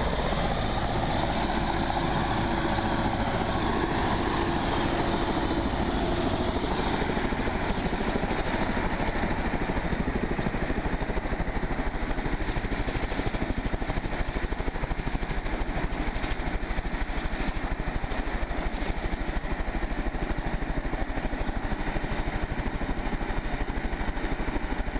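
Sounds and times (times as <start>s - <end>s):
helicopter engine whine: 0.0s - 24.9s
helicopter rotor blades beating: 0.0s - 24.9s.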